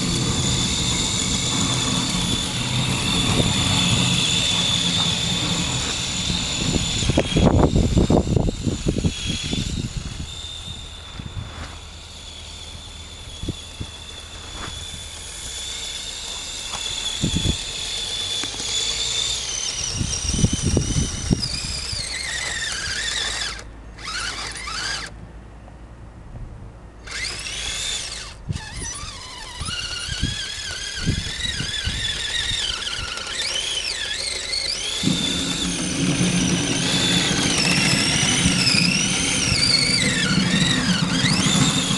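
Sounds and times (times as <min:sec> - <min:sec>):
electric motor whining: 0:00.0 - 0:25.2, 0:27.0 - 0:41.9.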